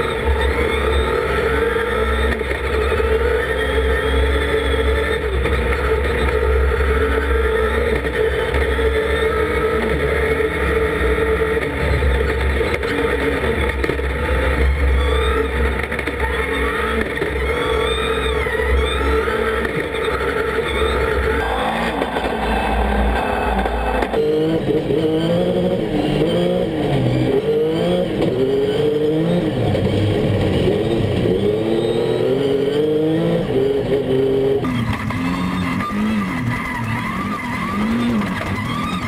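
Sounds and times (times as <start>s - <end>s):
race car engine running hard: 0.0s - 39.0s.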